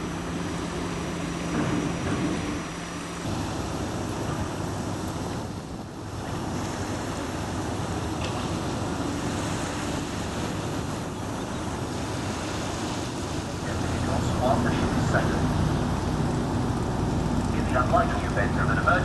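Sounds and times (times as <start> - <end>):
low engine hum: 0.0 - 19.0
propellers churning water: 0.0 - 19.0.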